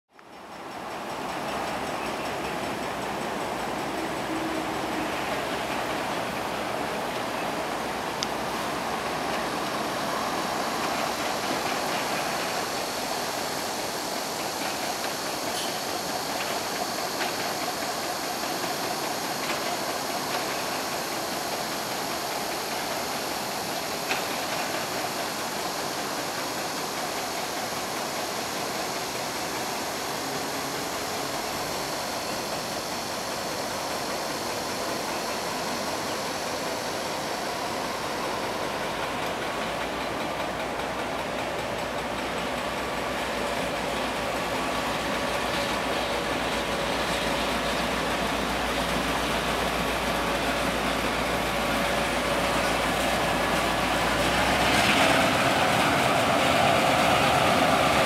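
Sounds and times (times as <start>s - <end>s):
background hiss: 0.2s - 58.0s
locomotive diesel engine running: 0.4s - 58.0s.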